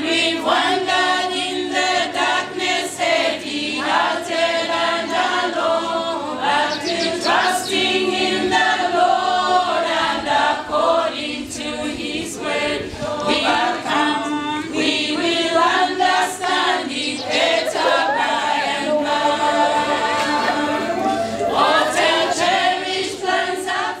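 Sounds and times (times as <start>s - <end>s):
choir singing unaccompanied: 0.0s - 24.0s.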